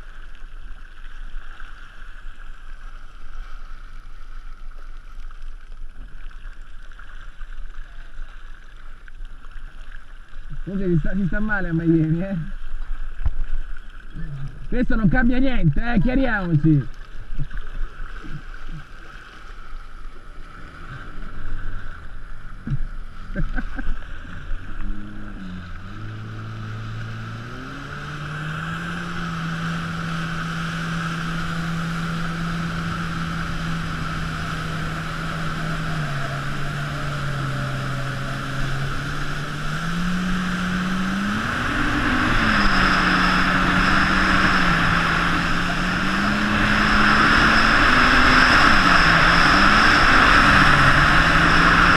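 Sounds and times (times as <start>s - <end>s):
jet ski engine: 0.0s - 51.9s
water rushing: 0.0s - 51.9s
wind: 0.0s - 51.9s.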